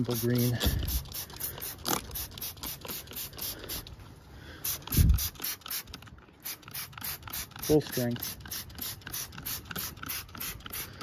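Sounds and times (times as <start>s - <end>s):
spray bottle spritzing: 0.0s - 3.9s, 4.6s - 11.0s.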